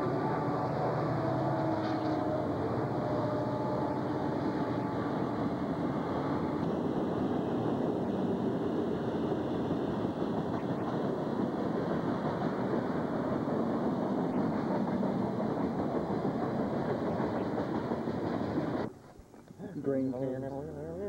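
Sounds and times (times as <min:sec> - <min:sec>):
train wheels rumbling on rails: 0:00.0 - 0:19.2.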